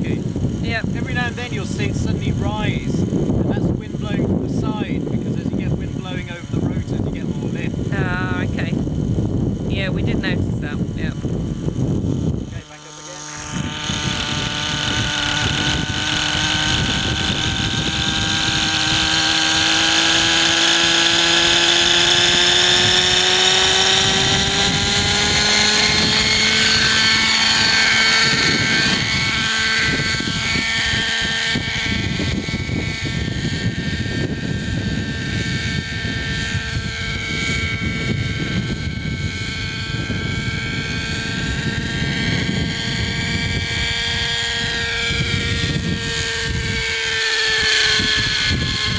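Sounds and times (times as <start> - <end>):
model helicopter engine and rotors: 0.0 - 48.9.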